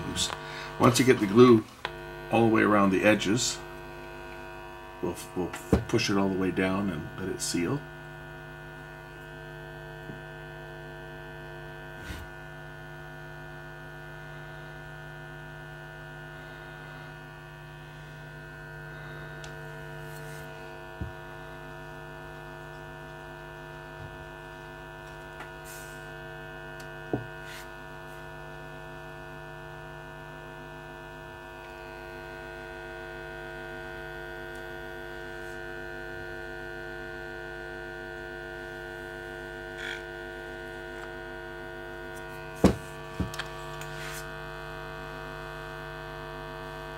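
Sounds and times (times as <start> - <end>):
buzzing hum of test tone: 0.0 - 46.9.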